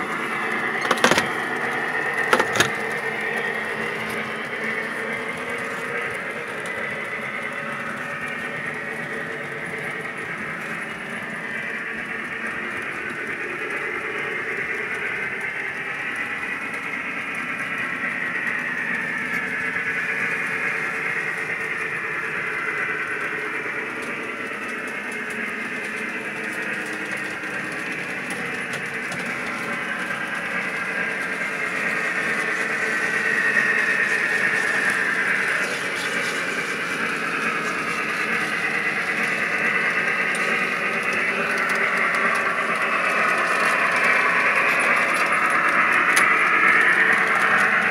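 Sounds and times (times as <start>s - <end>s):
wheels rolling on metal track: 0.0s - 47.9s.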